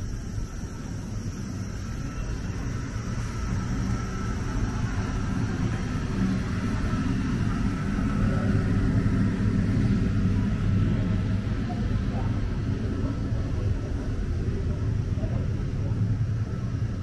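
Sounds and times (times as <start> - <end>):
city traffic rumble: 0.0 - 17.0
faint engine hum: 0.0 - 17.0.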